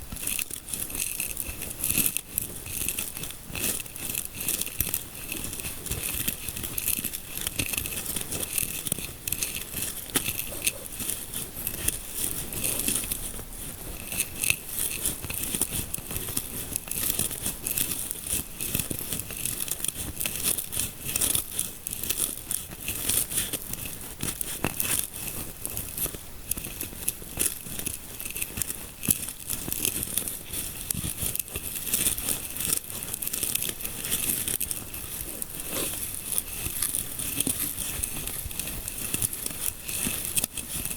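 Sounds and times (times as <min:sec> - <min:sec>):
fingers rubbing through hair: 0:00.0 - 0:40.9.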